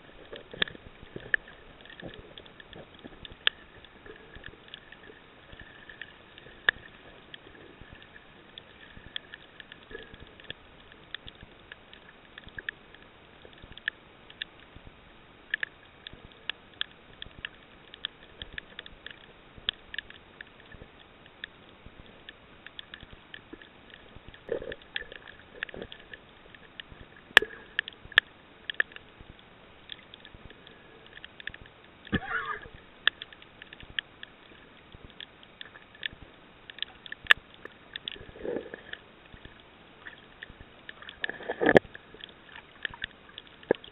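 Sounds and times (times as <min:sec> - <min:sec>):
crackling clicks: 0:00.0 - 0:43.9
low underwater hiss: 0:00.0 - 0:43.9.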